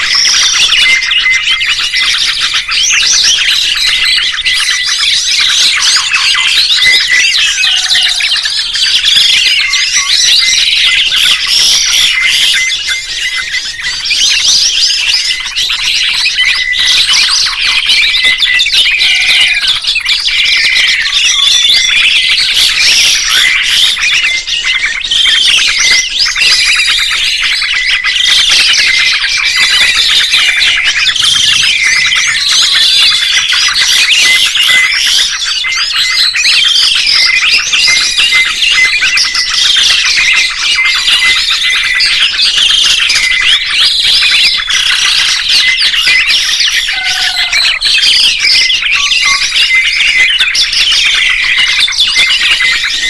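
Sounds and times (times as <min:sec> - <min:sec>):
songbirds chirping and warbling: 0:00.0 - 0:53.0.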